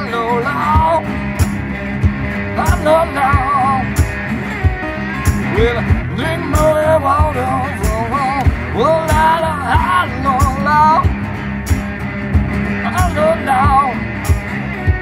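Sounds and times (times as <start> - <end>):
resonator guitar playing: 0.0 - 15.0
low thumping beat: 0.8 - 15.0.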